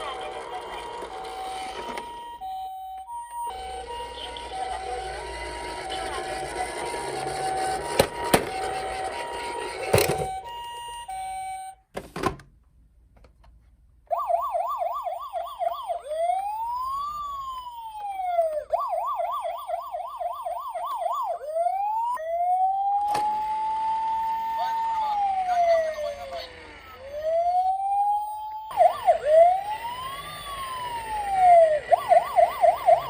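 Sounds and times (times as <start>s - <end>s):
toy electronic police siren: 0.0s - 11.8s, 14.1s - 33.0s
toy two-tone ambulance siren: 0.0s - 11.8s, 14.1s - 33.0s.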